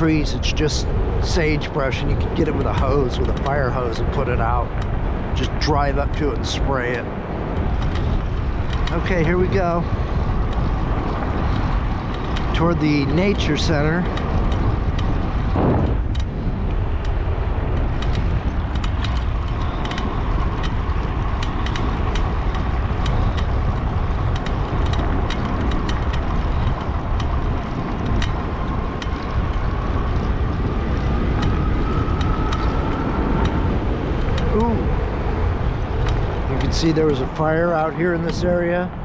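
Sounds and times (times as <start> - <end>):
bike ticks and knocks: 0.0 - 39.0
wind rush over microphone: 0.0 - 39.0.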